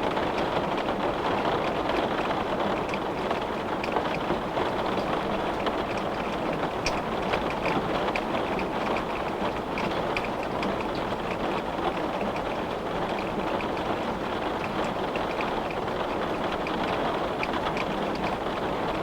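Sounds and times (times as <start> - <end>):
rain on a glass window: 0.0 - 19.0.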